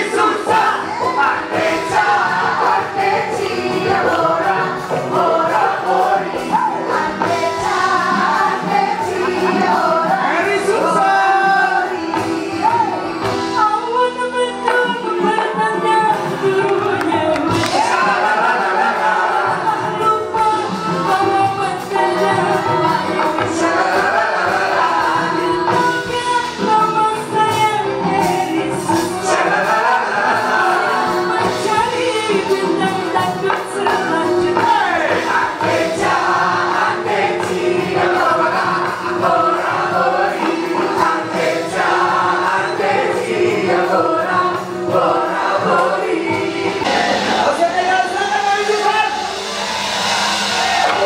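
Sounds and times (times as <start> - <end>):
band music: 0.0 - 51.0
group singing into microphones: 0.0 - 51.0.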